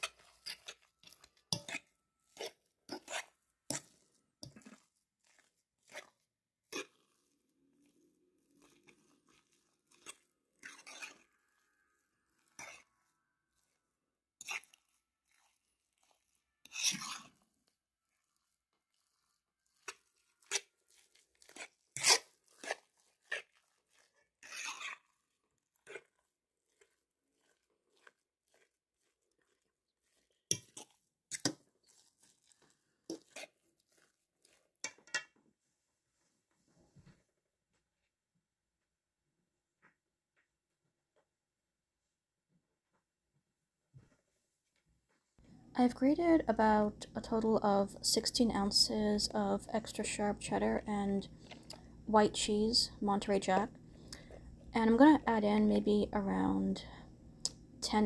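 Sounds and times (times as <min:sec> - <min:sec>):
utensil mashing potatoes in bowl: 0:00.0 - 0:36.4, 0:45.4 - 0:58.0.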